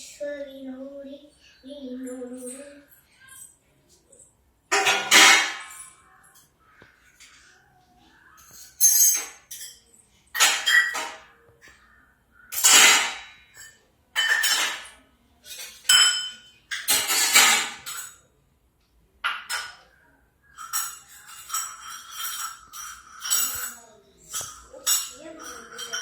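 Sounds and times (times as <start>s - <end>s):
dishes and utensils clattering: 2.1s - 7.6s, 8.3s - 18.3s, 19.2s - 26.0s.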